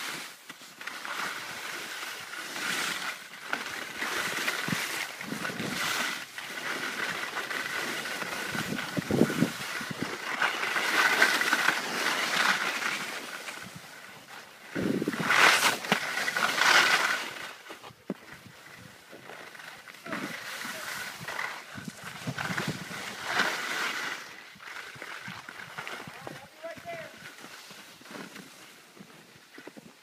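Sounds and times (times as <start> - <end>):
skis scraping over snow: 0.0 - 30.0.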